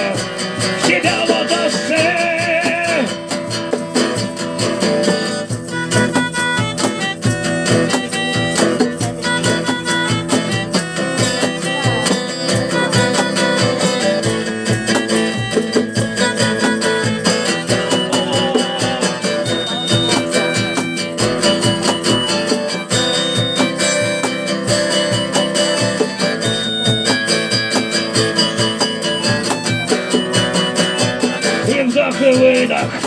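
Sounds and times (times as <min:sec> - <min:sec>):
acoustic guitar strumming: 0:00.0 - 0:33.0
high held melody notes: 0:00.0 - 0:33.0.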